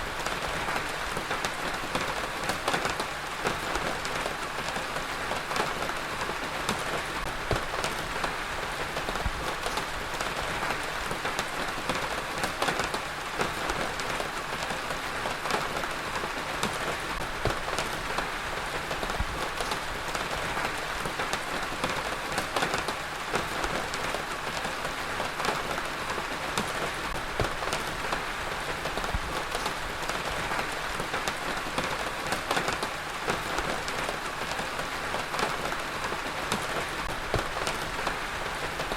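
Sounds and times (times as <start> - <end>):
heavy rain on a hard surface: 0.0 - 38.9.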